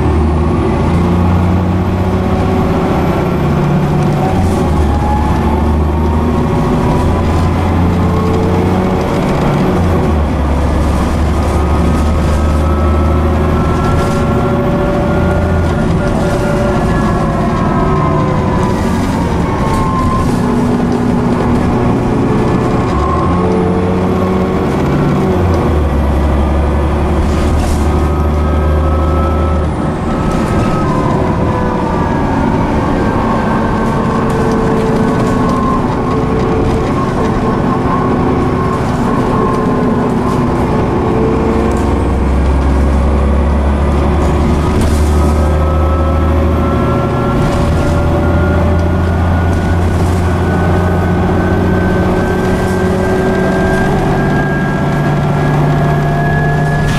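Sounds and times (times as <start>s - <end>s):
bus engine shifting gears: 0.0s - 56.9s
deep drone: 0.0s - 56.9s.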